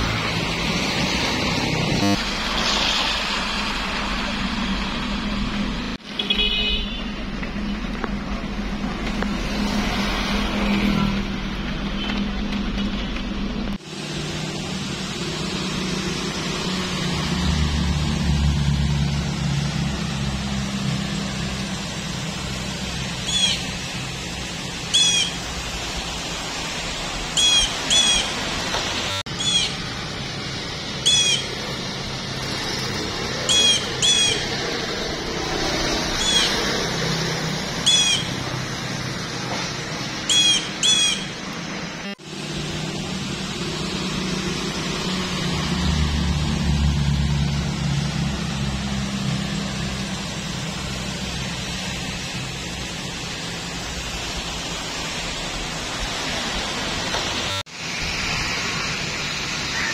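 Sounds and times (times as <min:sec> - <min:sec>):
distant city traffic rumble: 0:00.0 - 0:59.9.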